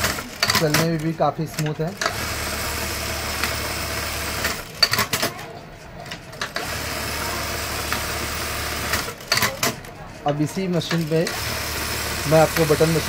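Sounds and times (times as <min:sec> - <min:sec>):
sewing machine humming: 0:00.0 - 0:05.3, 0:06.0 - 0:13.0
sewing machine clacks: 0:00.0 - 0:05.4, 0:06.0 - 0:13.0.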